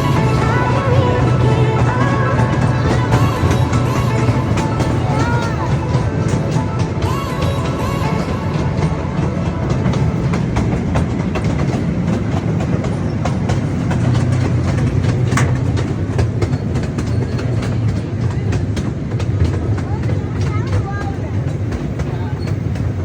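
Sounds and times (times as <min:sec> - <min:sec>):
train low rumble: 0:00.0 - 0:23.0
wheels clacking on rails: 0:00.0 - 0:23.0.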